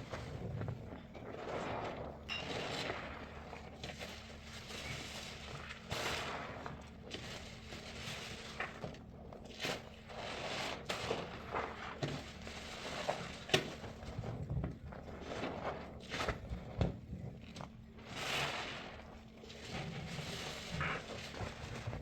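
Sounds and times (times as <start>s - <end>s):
soapy sponge squelching: 0.0s - 22.0s.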